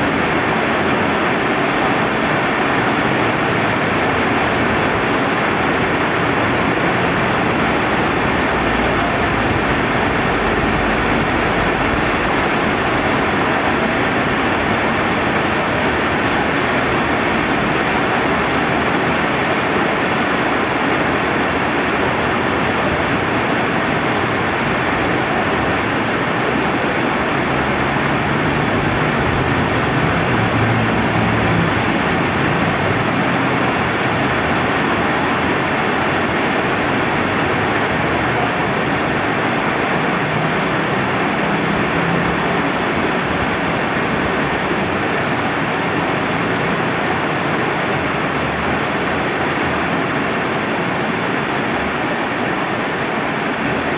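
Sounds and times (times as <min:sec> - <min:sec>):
rain falling: 0:00.0 - 0:53.9
river flowing: 0:00.0 - 0:53.9.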